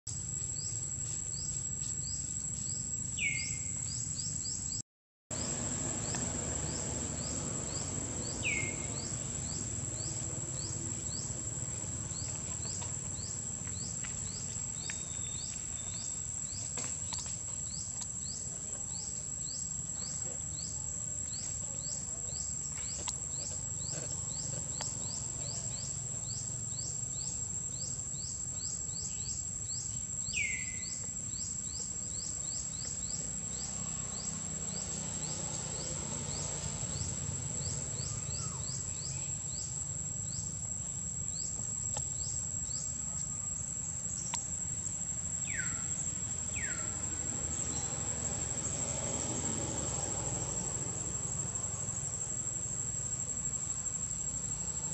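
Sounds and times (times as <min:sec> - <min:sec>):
insect high-pitched drone: 0:00.1 - 0:54.9.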